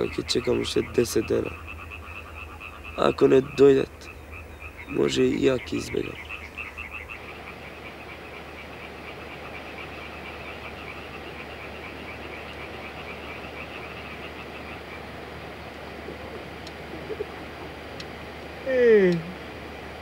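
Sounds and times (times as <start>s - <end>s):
frogs croaking: 0.0s - 20.0s
steady background hiss: 0.0s - 20.0s.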